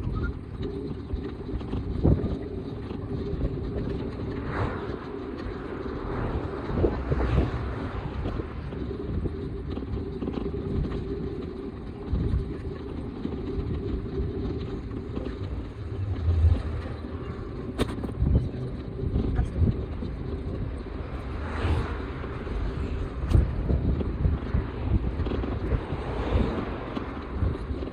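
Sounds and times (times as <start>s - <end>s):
road rumble: 0.0s - 27.9s
wind buffeting microphone: 0.0s - 27.9s.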